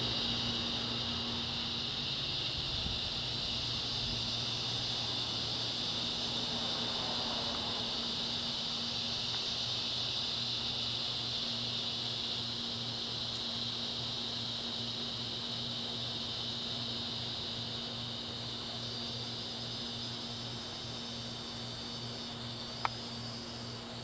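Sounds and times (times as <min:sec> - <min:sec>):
insects singing shrill drone: 0:00.0 - 0:24.0.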